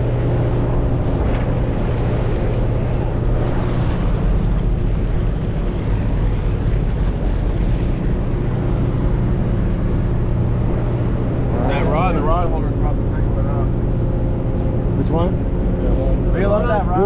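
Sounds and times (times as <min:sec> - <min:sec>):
boat engine droning: 0:00.0 - 0:17.0
water: 0:00.0 - 0:17.0
wind: 0:00.0 - 0:17.0.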